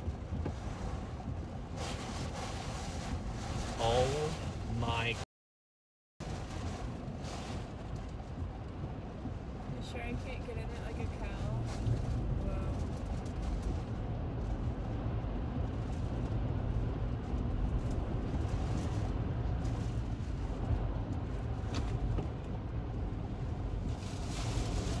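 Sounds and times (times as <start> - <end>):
wind buffeting a vehicle: 0.0 - 5.0, 6.2 - 25.0.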